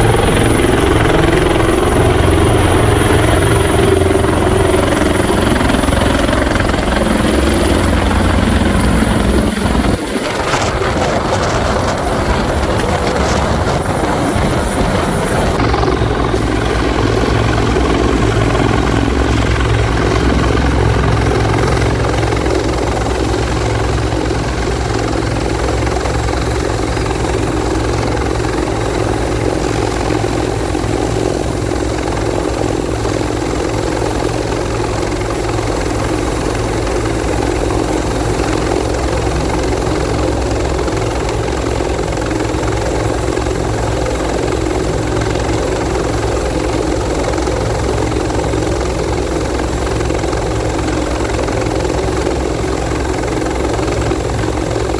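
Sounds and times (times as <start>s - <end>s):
helicopter running: 0.0s - 54.9s.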